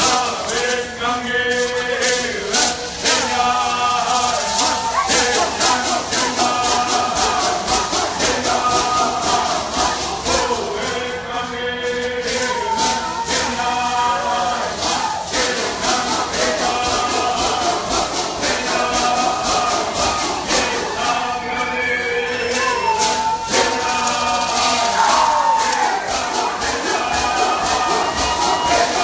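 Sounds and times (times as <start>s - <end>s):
group of voices chanting: 0.0s - 29.0s
shaken rattles: 0.0s - 29.0s.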